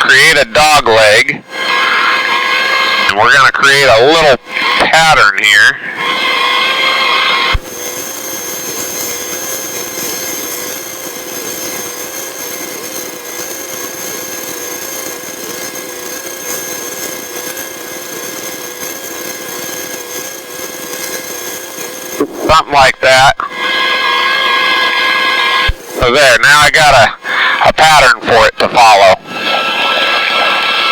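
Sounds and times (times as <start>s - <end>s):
small plane engine droning: 0.0s - 30.9s.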